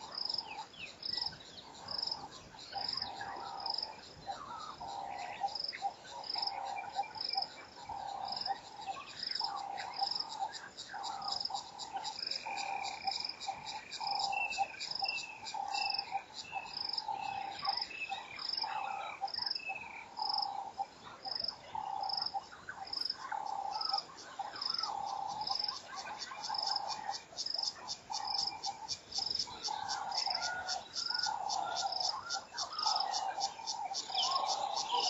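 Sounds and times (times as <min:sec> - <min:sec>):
repeated frog call: 0:00.0 - 0:35.0.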